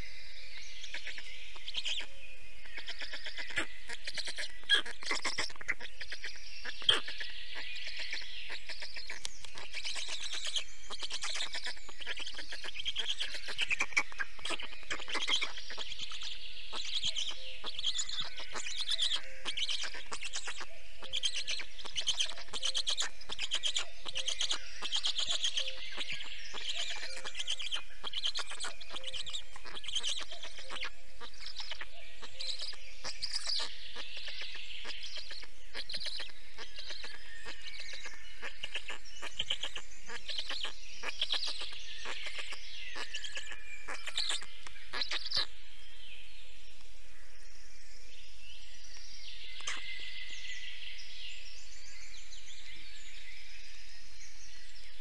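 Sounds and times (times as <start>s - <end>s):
birds chirping rapidly: 0.0s - 55.0s.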